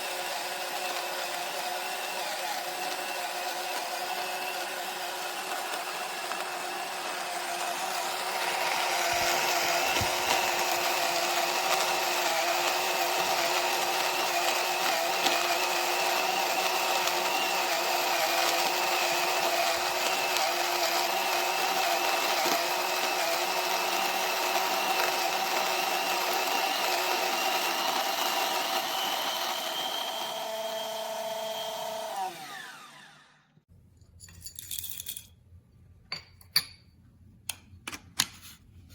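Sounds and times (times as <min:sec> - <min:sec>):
grainy grinding noise: 0:00.0 - 0:32.1
coffee grinder motor whine: 0:00.0 - 0:33.6.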